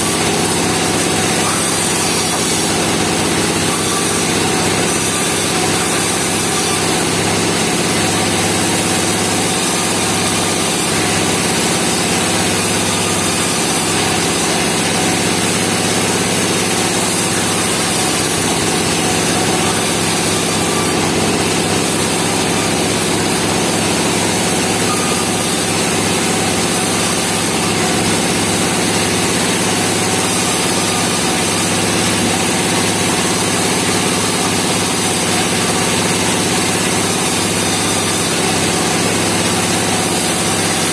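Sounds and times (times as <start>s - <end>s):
sawmill engine idling: 0.0s - 40.9s.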